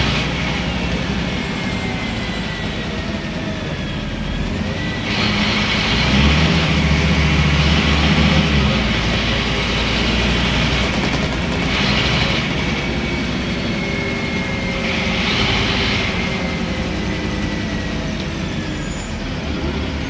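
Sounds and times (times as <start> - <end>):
bus diesel engine drone: 0.0 - 20.0.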